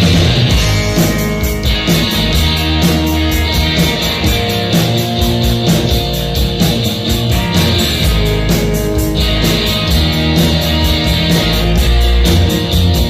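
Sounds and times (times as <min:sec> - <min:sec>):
bass guitar: 0:00.0 - 0:13.0
drums with steady beat: 0:00.0 - 0:13.0
electric guitars: 0:00.0 - 0:13.0.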